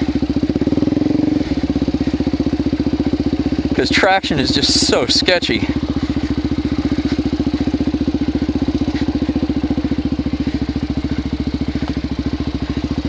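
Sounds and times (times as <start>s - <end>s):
motorcycle engine thumping at low revs: 0.0s - 13.0s.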